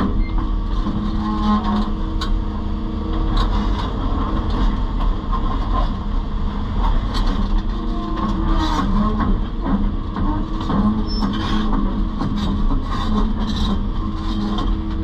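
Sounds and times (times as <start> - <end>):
excavator diesel engine and hydraulics: 0.0 - 15.0.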